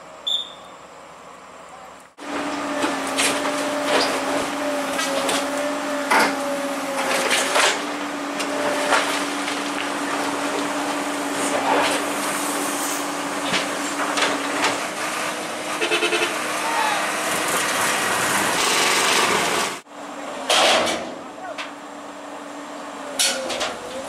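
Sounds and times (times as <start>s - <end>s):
machinery humming: 0.0s - 20.6s.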